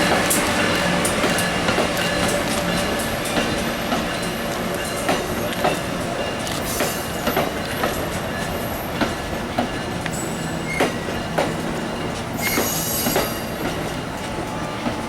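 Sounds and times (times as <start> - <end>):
rail car rumble: 0.0 - 15.0
wheels clacking over rail joints: 0.0 - 15.0.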